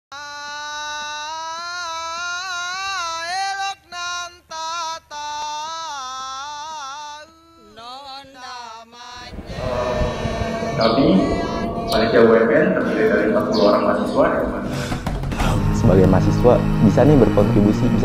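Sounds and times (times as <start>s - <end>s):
high solo voice singing: 0.1s - 18.0s.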